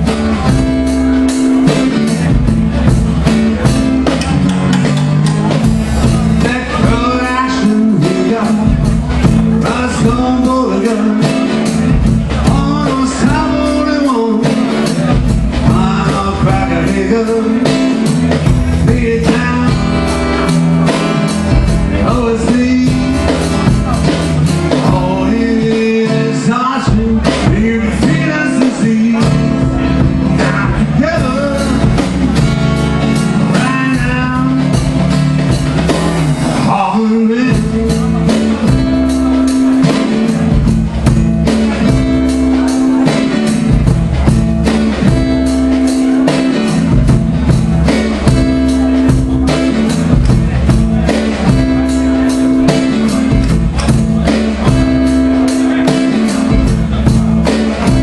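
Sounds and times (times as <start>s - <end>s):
acoustic guitar: 0.0s - 58.0s
percussion keeping a beat: 0.0s - 58.0s
man singing: 3.2s - 58.0s.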